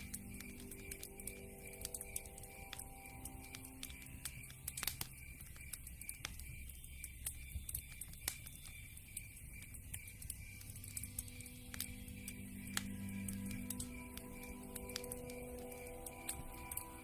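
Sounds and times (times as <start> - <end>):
low rumble of burning logs: 0.0 - 17.0
wood fire crackling and popping: 0.0 - 17.0.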